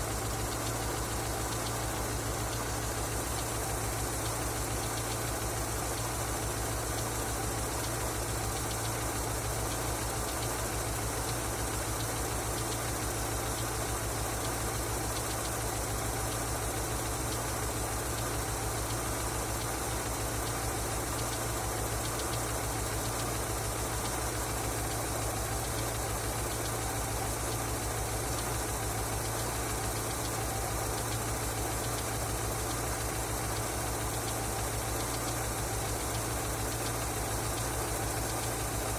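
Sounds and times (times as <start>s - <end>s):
car engine idling with knocking: 0.0s - 38.9s.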